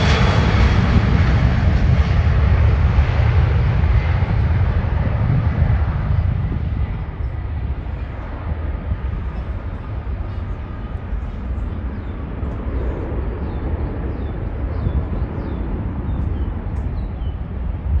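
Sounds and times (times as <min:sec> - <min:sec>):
jet engines roaring at takeoff: 0:00.0 - 0:18.0.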